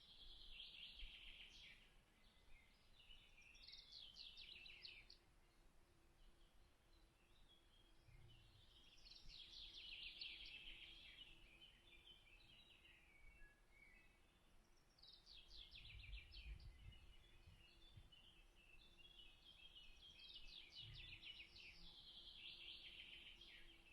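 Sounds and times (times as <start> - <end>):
songbird chirping: 0.0 - 23.9.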